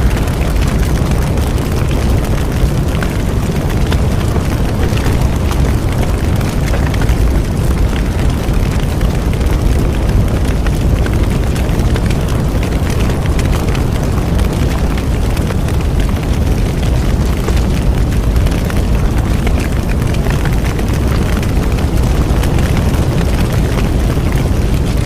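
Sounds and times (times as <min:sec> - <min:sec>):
bonfire crackling and popping: 0:00.0 - 0:25.0.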